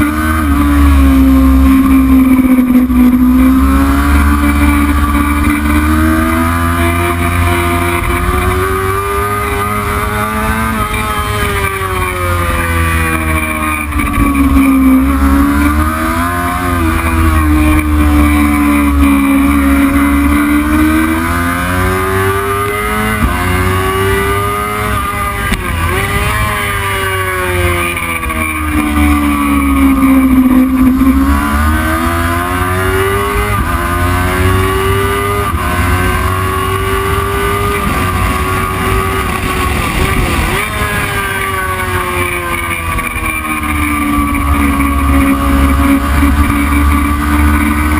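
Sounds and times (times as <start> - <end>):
racing motorcycle engine: 0.0 - 47.9.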